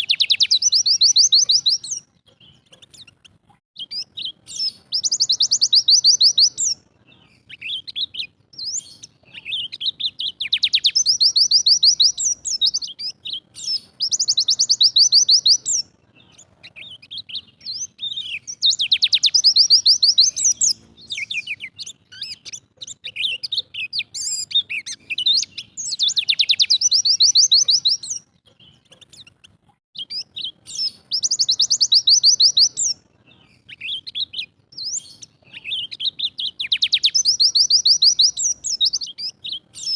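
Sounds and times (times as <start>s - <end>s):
bird chirps: 0.0s - 39.9s
bird rapid high chattering song: 0.0s - 39.9s.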